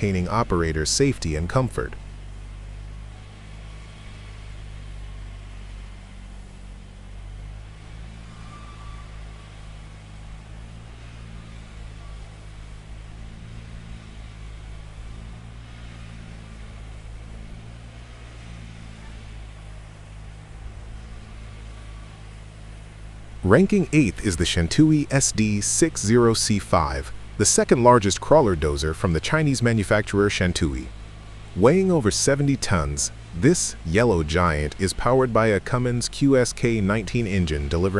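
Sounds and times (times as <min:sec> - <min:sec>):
bulldozer diesel engine running: 0:00.0 - 0:37.9.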